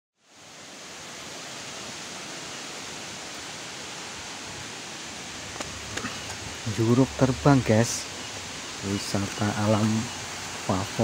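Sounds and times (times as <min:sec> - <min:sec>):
waterfall rushing: 0:00.2 - 0:11.0.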